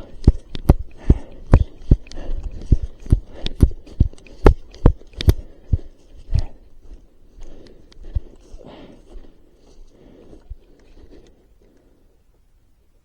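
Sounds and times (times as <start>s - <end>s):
running footsteps: 0.0s - 11.2s.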